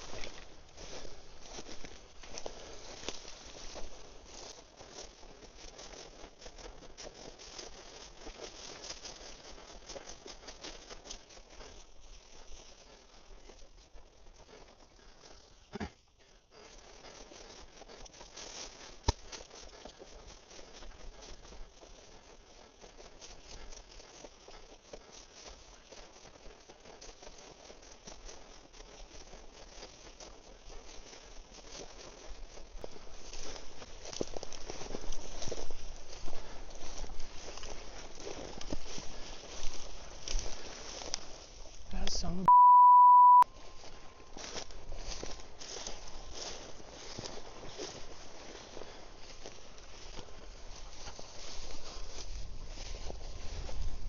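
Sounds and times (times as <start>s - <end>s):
dry grass crackling underfoot: 0.0s - 42.5s, 43.4s - 54.0s.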